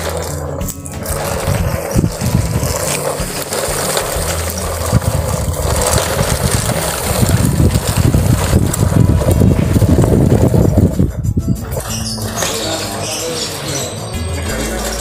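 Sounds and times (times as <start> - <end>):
toy truck wheels rolling on concrete: 0.0 - 15.0.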